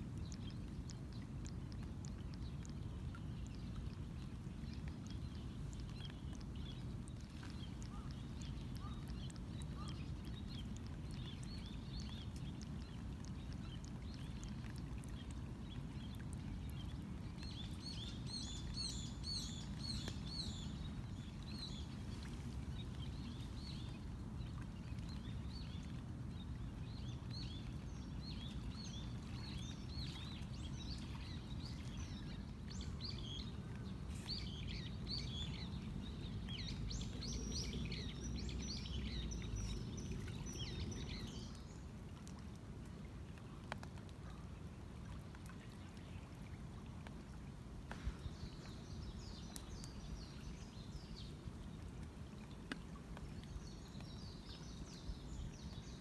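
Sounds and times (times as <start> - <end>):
small birds chirping: 0.0 - 41.9, 47.9 - 51.4.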